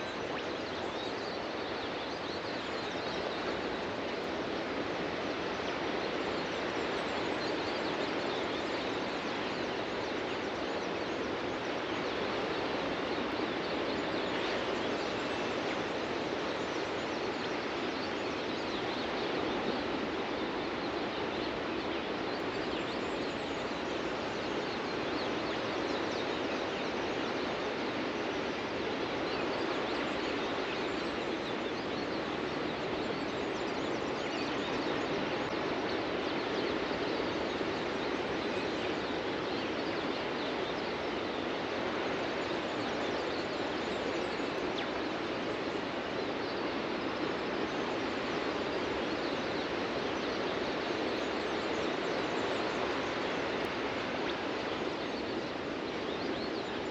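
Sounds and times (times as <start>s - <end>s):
faint bird chirps: 0.0s - 56.9s.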